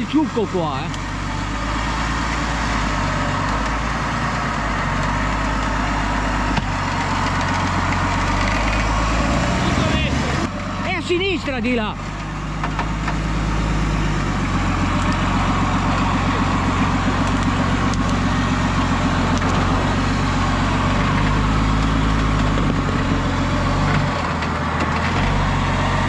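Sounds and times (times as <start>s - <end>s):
off-road vehicle engine at low revs: 0.0s - 26.0s.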